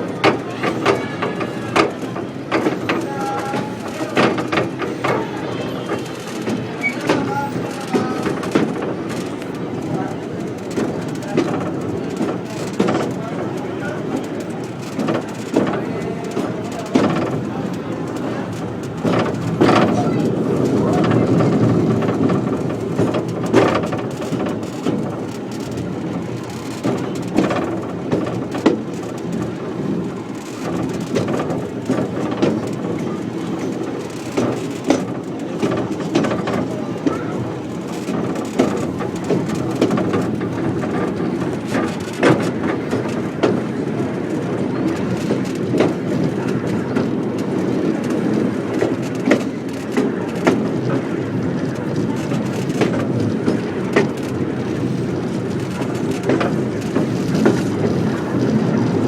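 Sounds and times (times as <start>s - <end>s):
knocks and clanks: 0.0s - 59.0s
train wheels rumbling and rattling: 0.0s - 59.0s.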